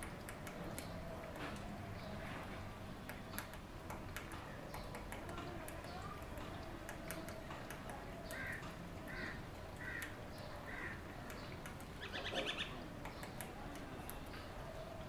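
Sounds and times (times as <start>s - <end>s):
woodpecker tapping on wood: 0.0s - 1.7s, 3.0s - 14.3s.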